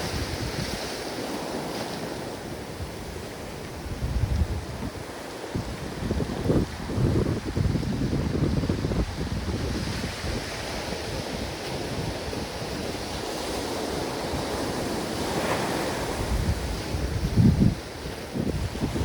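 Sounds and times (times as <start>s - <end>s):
wind buffeting microphone: 0.0s - 1.4s, 2.4s - 19.0s
ocean surf washing: 0.0s - 19.0s.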